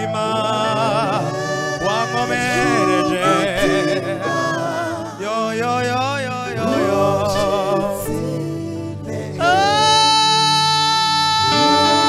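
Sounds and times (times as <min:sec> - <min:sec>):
keyboard chords: 0:00.0 - 0:12.0
man singing gospel song: 0:00.0 - 0:12.0.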